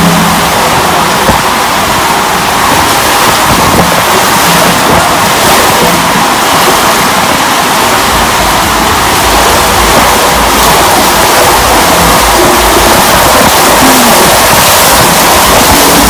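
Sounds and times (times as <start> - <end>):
wind and road noise: 0.0 - 16.0
wind buffets on microphone: 0.0 - 16.0.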